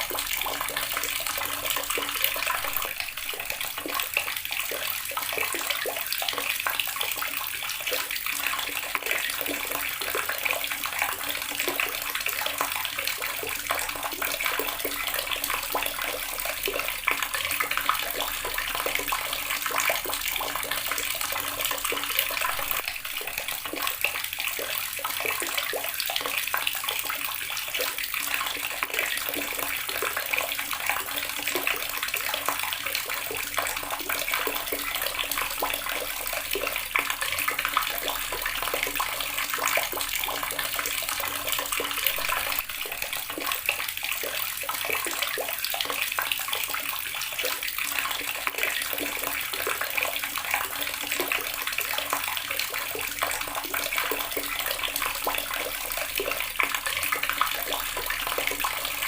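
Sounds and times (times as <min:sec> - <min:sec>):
water tap running into basin: 0:00.0 - 0:59.0.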